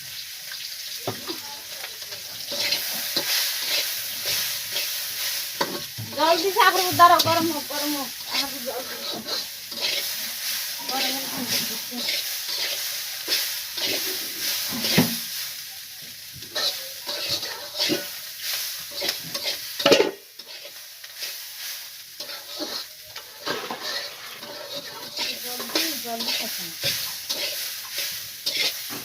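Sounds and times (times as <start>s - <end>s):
food sizzling in oil: 0.0s - 29.0s
utensil stirring and scraping: 2.1s - 15.3s, 16.4s - 18.2s, 18.8s - 21.4s, 22.2s - 29.0s.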